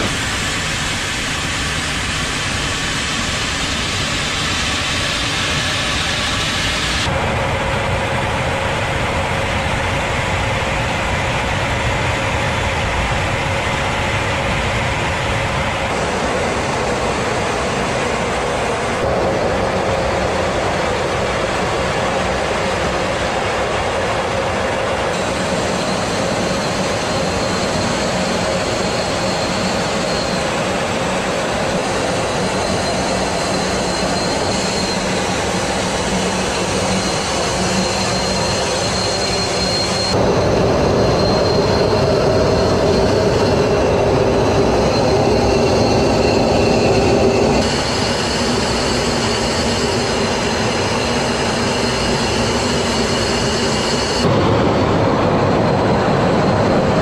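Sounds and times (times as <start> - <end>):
aircraft engine and airflow noise: 0.0 - 57.0.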